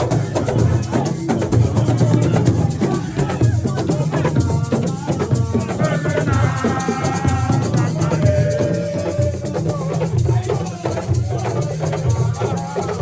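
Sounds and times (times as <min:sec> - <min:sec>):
drums and shakers: 0:00.0 - 0:13.0.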